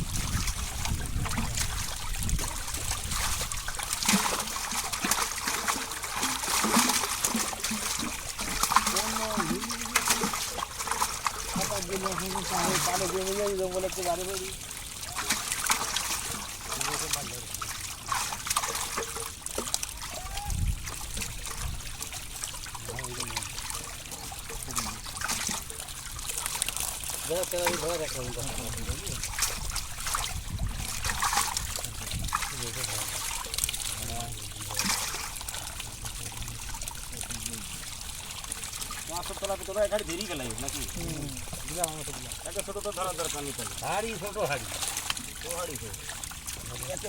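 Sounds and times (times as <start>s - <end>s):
small water splashes: 0.0s - 47.0s
water trickling and sloshing: 0.0s - 47.0s.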